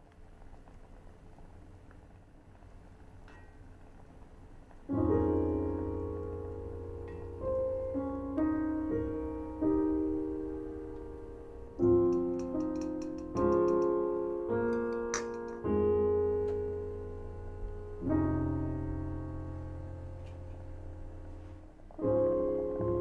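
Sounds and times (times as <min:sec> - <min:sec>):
soft piano music: 0:03.0 - 0:23.0.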